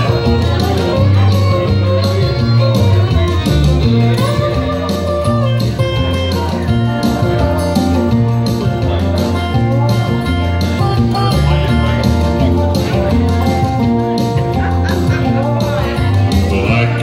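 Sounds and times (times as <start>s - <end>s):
bass line: 0.0s - 17.0s
plucked guitar: 0.0s - 17.0s.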